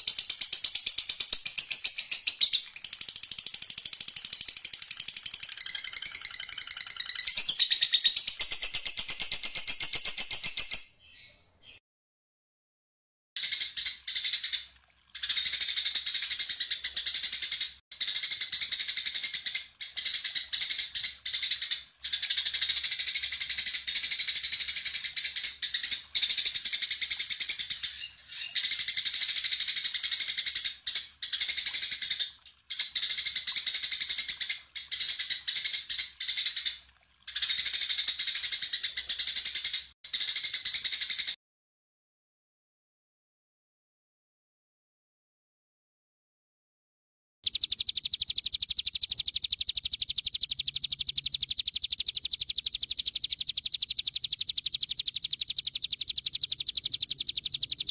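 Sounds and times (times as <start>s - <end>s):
songbird chirping and trilling: 0.0s - 11.8s, 13.5s - 41.4s, 47.4s - 57.9s.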